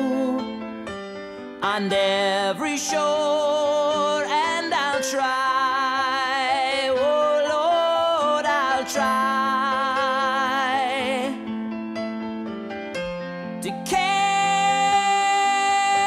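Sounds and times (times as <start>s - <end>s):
person singing with vibrato: 0.0s - 0.6s, 1.4s - 11.5s, 13.6s - 16.0s.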